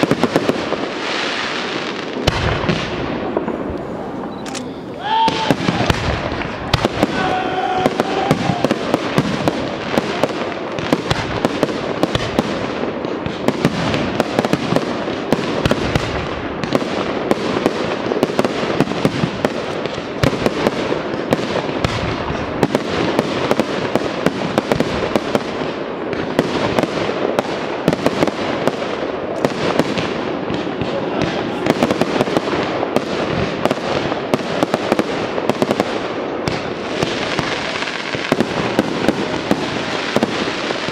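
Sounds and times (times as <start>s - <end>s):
fireworks crackle: 0.0s - 40.9s.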